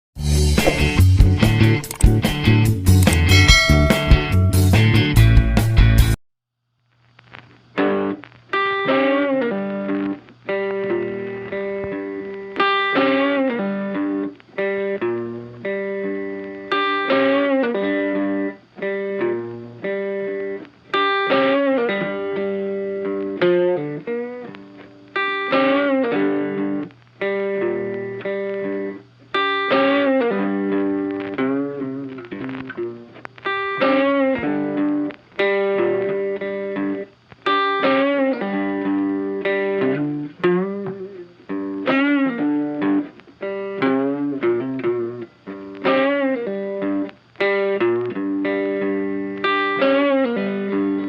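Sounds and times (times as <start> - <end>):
guitar melody with bent notes: 0.2 - 6.2, 7.7 - 51.0.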